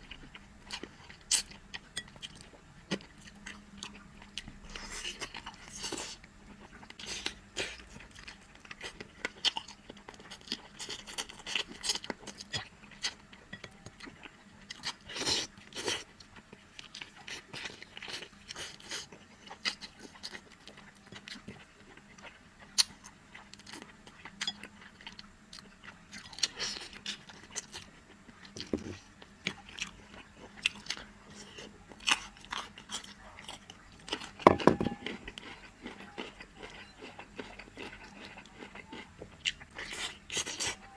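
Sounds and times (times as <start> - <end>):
chewing and crunching: 0.0 - 40.9.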